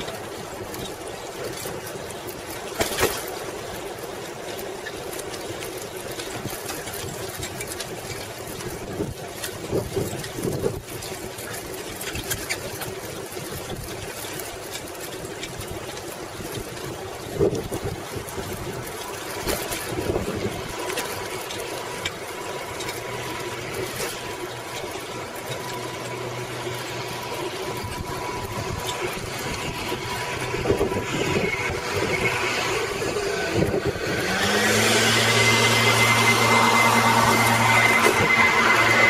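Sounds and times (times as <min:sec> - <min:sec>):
bicycle tyres and frame rattling: 0:00.0 - 0:39.0
low mechanical hum: 0:00.0 - 0:39.0
wind rushing over microphone: 0:06.3 - 0:14.9, 0:15.5 - 0:39.0.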